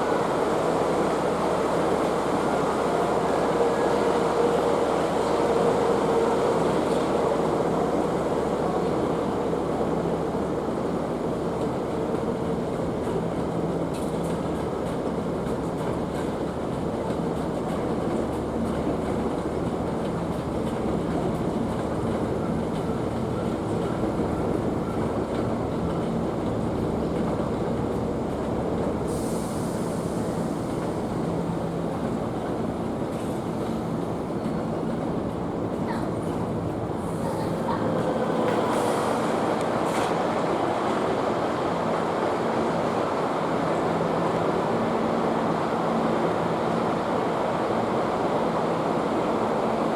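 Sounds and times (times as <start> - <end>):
electric train wheels rumbling on rail: 0.0 - 49.9.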